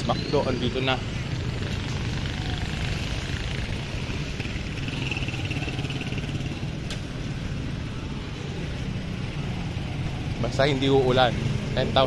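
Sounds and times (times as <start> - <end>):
low traffic rumble: 0.0 - 12.0
motorcycle passing: 0.0 - 12.0.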